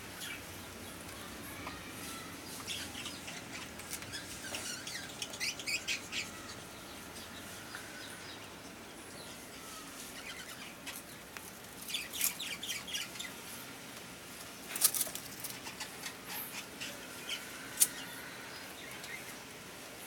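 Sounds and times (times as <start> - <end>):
puppies play-fighting on concrete: 0.2 - 19.4.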